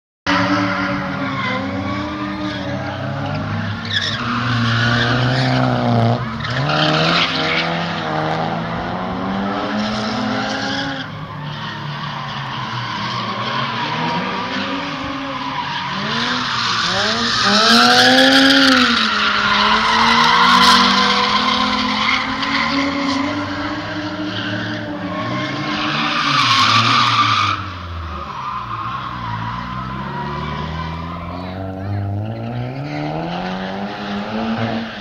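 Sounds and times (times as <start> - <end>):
car engines revving: 0.3 - 35.0.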